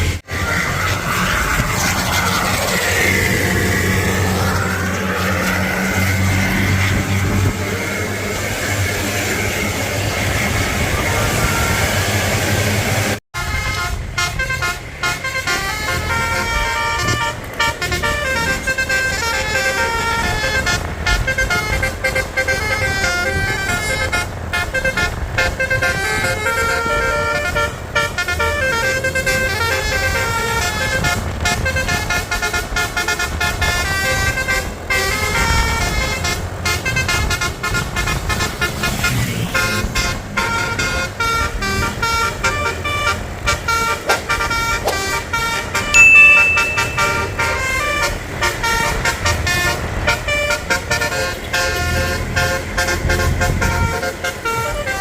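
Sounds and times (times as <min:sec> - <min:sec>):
bus engines rumbling: 0:00.0 - 0:55.0
multi-tone bus horns: 0:00.0 - 0:55.0
road noise: 0:00.0 - 0:55.0.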